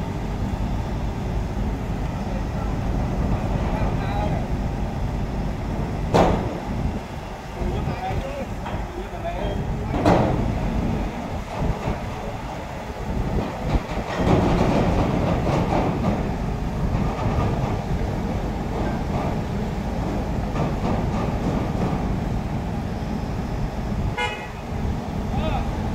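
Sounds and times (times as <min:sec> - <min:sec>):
heavy diesel engines rumbling: 0:00.0 - 0:25.9.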